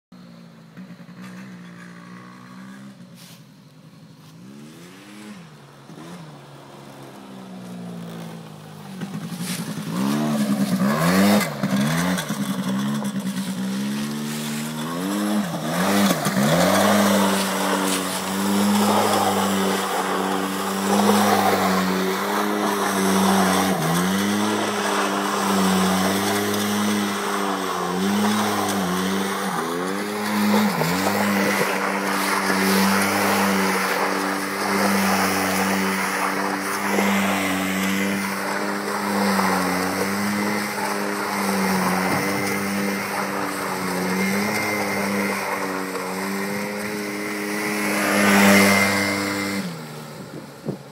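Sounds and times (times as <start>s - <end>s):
quad engine revving: 0.7s - 3.4s, 4.2s - 50.9s
tyres scrubbing on asphalt: 1.0s - 50.9s.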